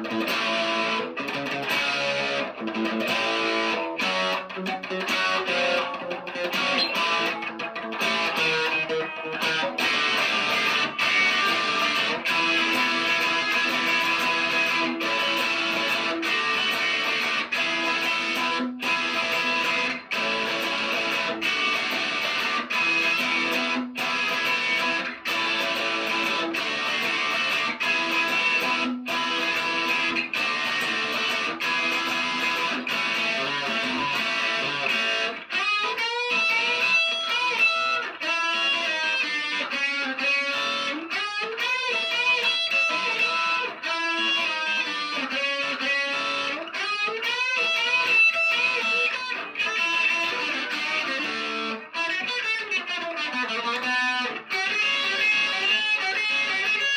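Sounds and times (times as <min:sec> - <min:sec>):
electric guitar bending lead notes: 0:00.0 - 0:56.9
electric guitar chords: 0:00.0 - 0:56.9.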